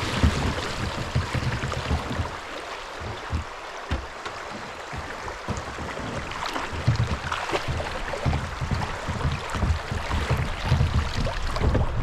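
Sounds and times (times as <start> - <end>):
creek water running: 0.0 - 12.0
dull low knocks: 0.0 - 12.0.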